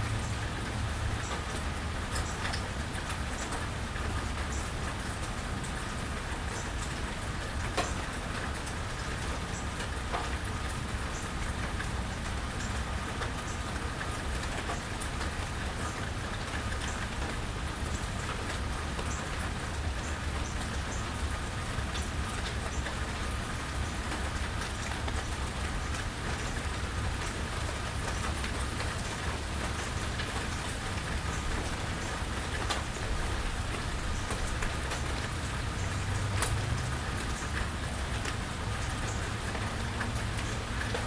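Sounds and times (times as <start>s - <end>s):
rain falling on a porch: 0.0s - 41.0s
raindrops ticking: 0.0s - 41.0s.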